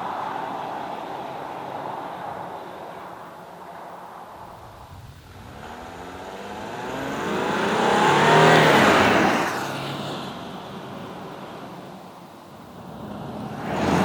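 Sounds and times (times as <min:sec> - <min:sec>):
car engine passing: 0:00.0 - 0:11.6, 0:12.5 - 0:14.0.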